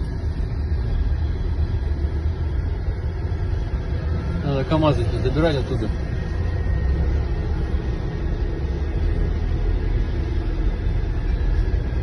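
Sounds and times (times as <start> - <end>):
road noise: 0.0 - 12.0
vehicle engine rumbling: 0.0 - 12.0.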